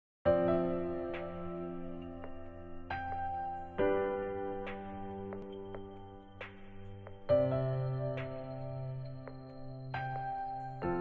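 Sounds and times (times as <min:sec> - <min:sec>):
soft slow background music: 0:00.3 - 0:11.0.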